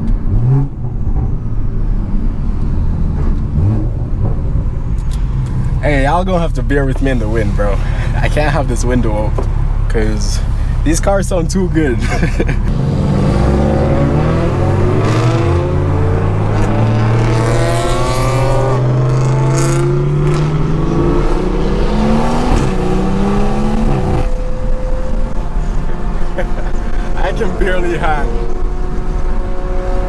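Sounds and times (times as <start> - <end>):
cars accelerating hard: 0.0 - 30.0.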